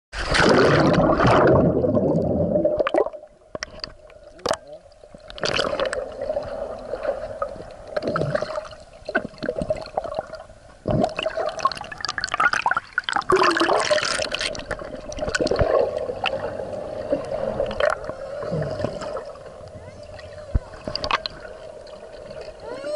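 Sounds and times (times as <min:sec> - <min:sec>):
water gurgling and bubbling: 0:00.2 - 0:22.9.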